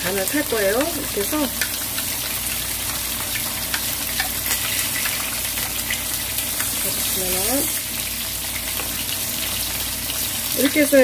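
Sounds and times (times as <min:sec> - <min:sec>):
hot oil sizzling and crackling: 0:00.0 - 0:11.0.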